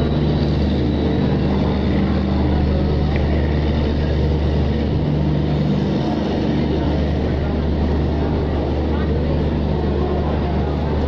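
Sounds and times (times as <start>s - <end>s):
steady low hum: 0.0s - 11.0s
train rolling rumble: 0.0s - 11.0s.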